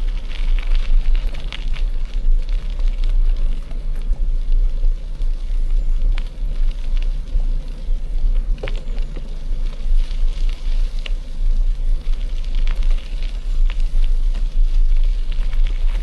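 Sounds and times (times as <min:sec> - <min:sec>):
tyres crunching on gravel: 0:00.0 - 0:16.0.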